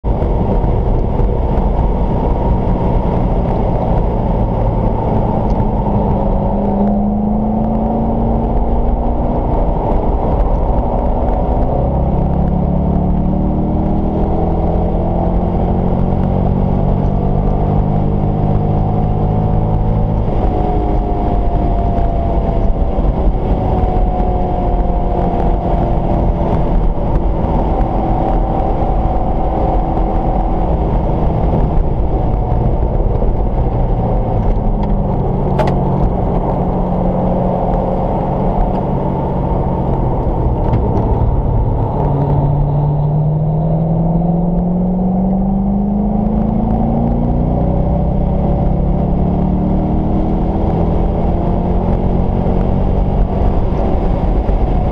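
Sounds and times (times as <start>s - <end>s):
muffled car engine accelerating: 0.0s - 54.9s
road noise inside car: 0.0s - 54.9s.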